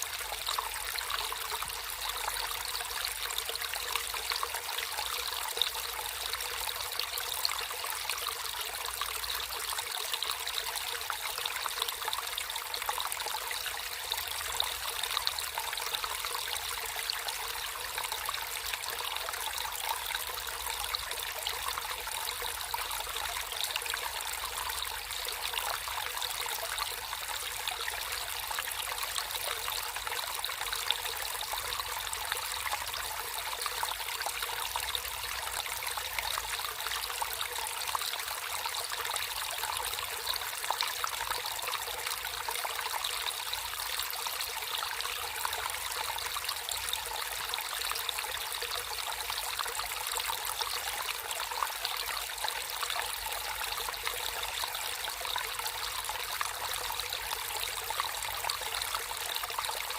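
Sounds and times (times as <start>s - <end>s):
water trickling in a stream: 0.0s - 59.9s.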